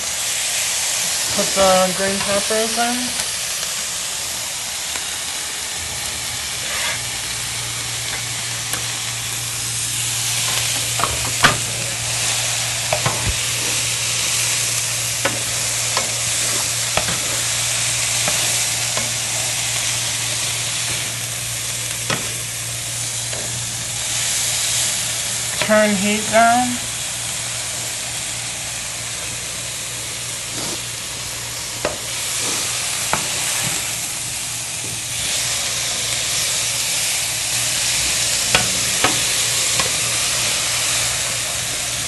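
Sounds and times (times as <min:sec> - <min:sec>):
meat and vegetables sizzling: 0:00.0 - 0:42.0.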